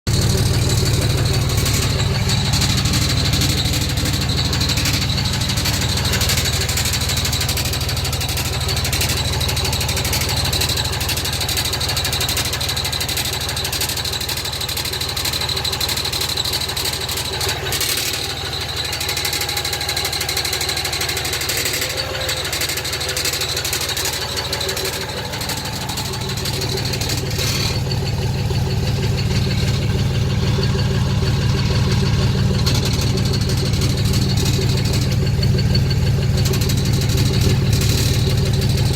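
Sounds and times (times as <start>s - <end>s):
diesel engine idling: 0.0s - 38.9s
exhaust rattling: 0.0s - 38.9s.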